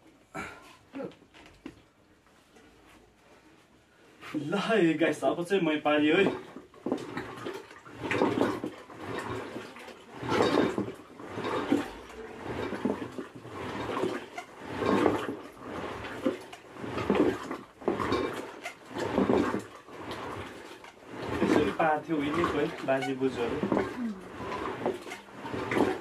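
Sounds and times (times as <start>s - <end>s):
butter churn sloshing and swishing: 2.2s - 26.0s.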